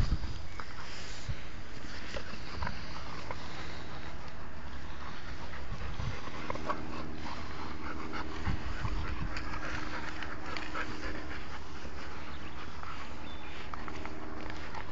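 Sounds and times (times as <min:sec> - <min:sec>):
constant low rumble: 0:00.0 - 0:14.9
dogs scuffling and breathing: 0:00.0 - 0:14.9.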